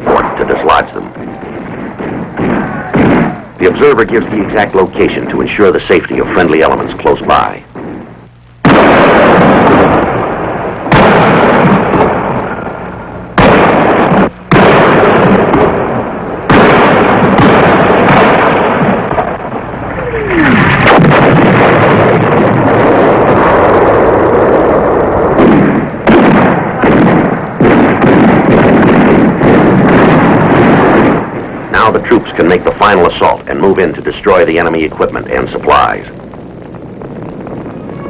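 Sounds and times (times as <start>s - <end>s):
artillery blasts rumbling: 0.0s - 38.0s.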